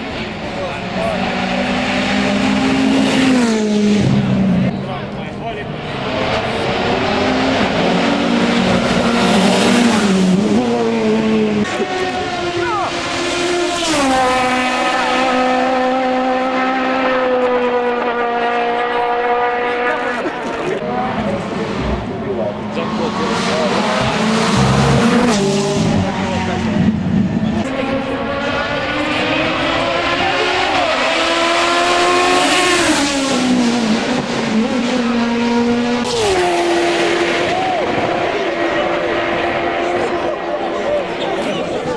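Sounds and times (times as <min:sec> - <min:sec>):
racing car engine at high revs: 0:00.0 - 0:41.9.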